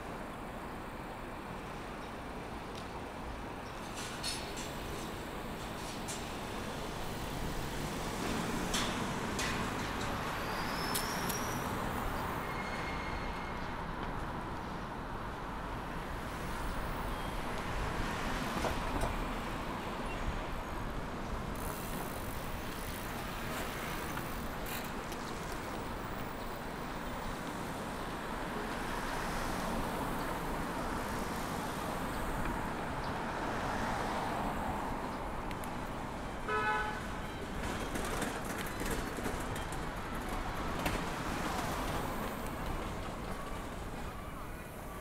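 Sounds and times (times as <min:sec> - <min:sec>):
cars passing with tyre noise: 0:00.0 - 0:45.0.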